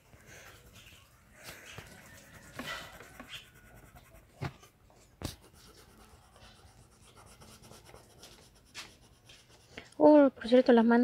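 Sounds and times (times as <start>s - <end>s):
colored pencil scratching on paper: 0.0s - 10.2s.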